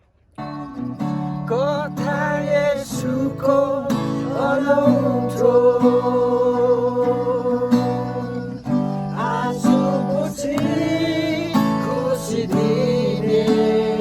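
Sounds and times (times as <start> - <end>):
worship song with acoustic guitar: 0.1 - 14.0.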